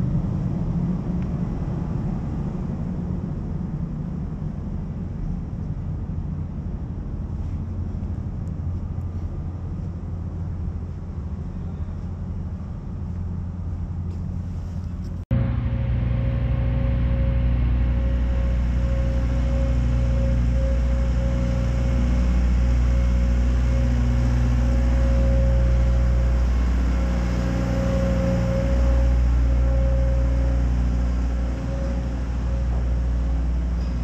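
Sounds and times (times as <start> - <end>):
machine hum with high whine: 0.0 - 34.0
machinery low rumble: 0.0 - 34.0.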